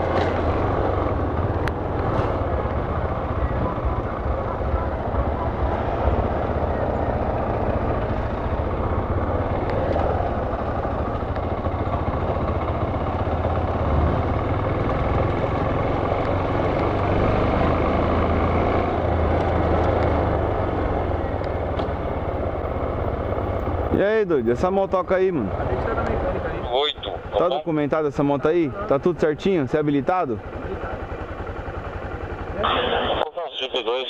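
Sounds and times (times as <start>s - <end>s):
motorcycle engine hum: 0.0s - 34.0s
wind and road noise: 0.0s - 34.0s.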